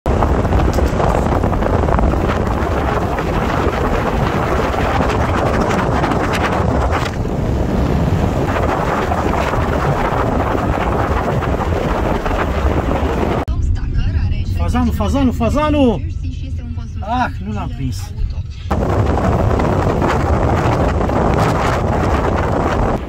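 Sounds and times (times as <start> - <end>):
wind buffeting microphone: 0.0 - 15.1, 18.7 - 23.0
vehicle rumble: 0.1 - 23.0.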